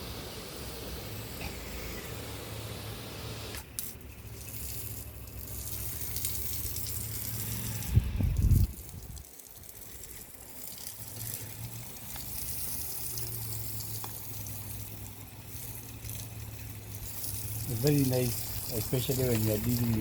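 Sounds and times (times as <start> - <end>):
garden hose spraying water: 0.0 - 20.0.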